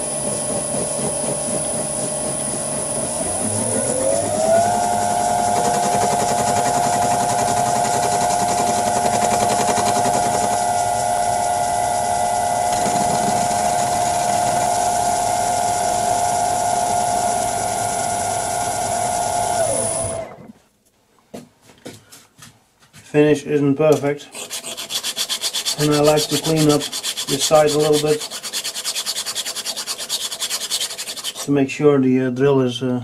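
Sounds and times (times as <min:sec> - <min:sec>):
metal lathe whining: 0:00.0 - 0:20.4, 0:24.3 - 0:31.5.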